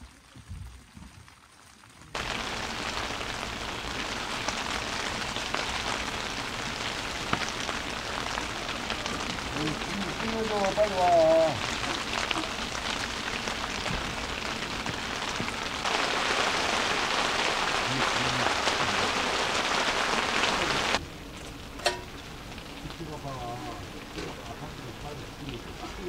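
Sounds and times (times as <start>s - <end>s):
rain on tent fabric: 0.0s - 26.0s.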